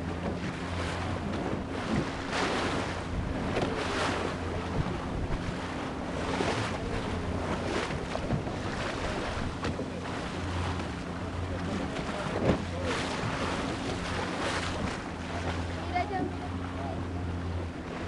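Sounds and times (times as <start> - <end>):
wind buffeting microphone: 0.0 - 16.3
boat engine humming: 0.0 - 18.0
water rushing and splashing: 0.0 - 18.0.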